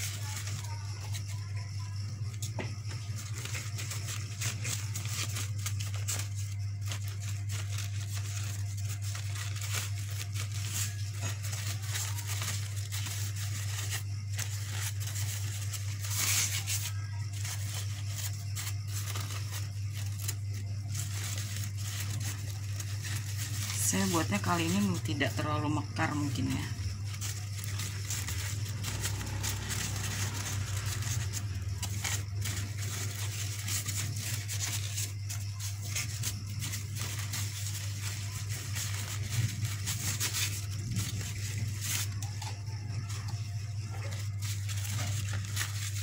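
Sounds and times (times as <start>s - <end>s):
crepe paper rustling and crinkling: 0.0s - 46.0s.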